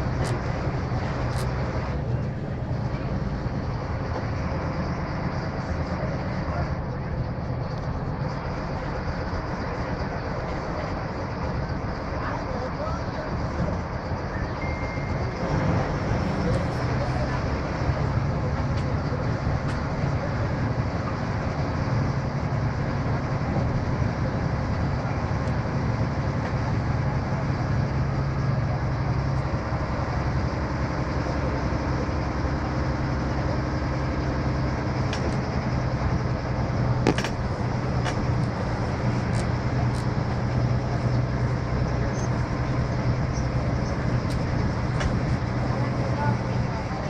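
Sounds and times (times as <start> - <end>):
diesel engine drone: 0.0 - 47.0.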